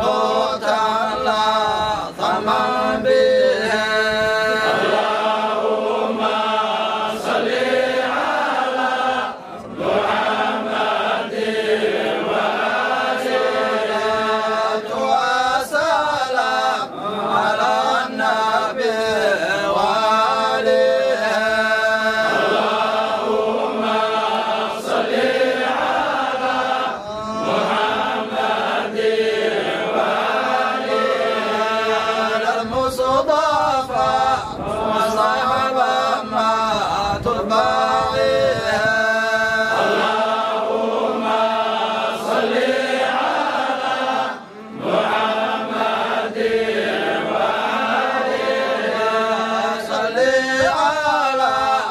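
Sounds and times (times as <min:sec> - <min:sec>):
men chanting together: 0:00.0 - 0:51.9.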